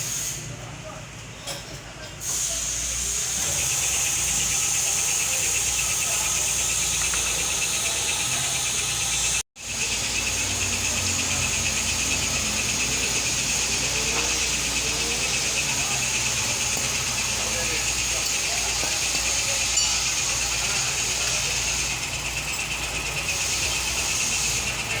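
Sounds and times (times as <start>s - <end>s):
hiss: 0.0s - 0.5s, 2.2s - 22.2s, 23.2s - 25.0s
machine running steadily: 3.1s - 25.0s.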